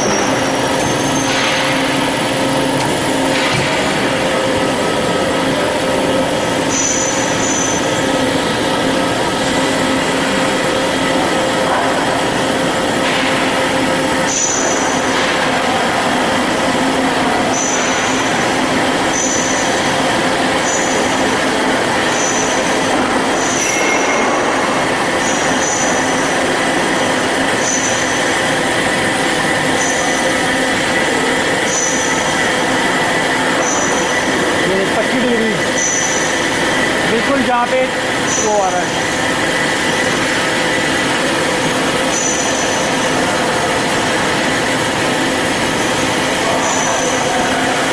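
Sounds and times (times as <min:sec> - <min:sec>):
band saw metallic whine: 0:00.0 - 0:47.9.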